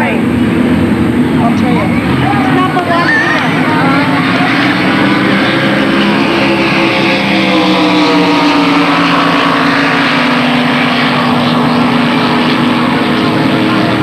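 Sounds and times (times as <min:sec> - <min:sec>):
powerboat engines at high revs: 0:00.0 - 0:14.0.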